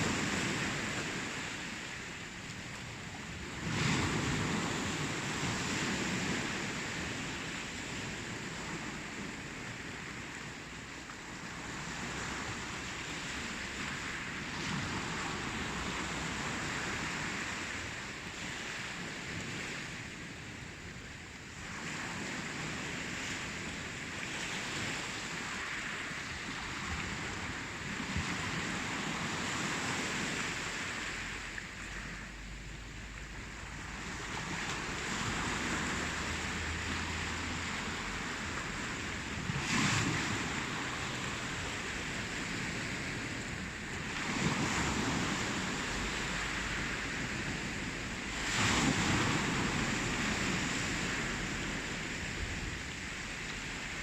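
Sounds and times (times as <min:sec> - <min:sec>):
ocean waves washing in: 0:00.0 - 0:54.0.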